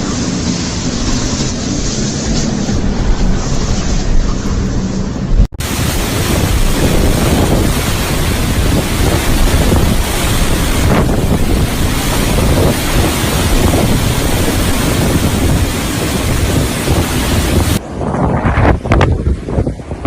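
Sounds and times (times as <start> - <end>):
storm wind on microphone: 0.0 - 20.0.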